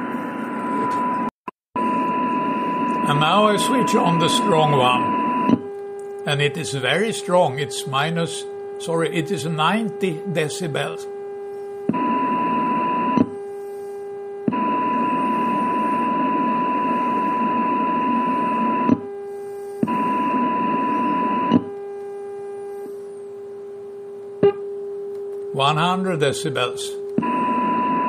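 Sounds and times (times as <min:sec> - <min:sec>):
weak low radio carrier tone: 0:00.0 - 0:28.0.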